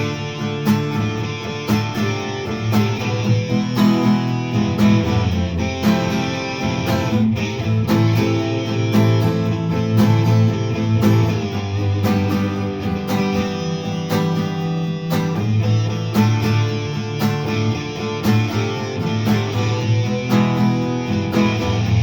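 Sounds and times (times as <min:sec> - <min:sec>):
strummed rock guitars: 0:00.0 - 0:22.0.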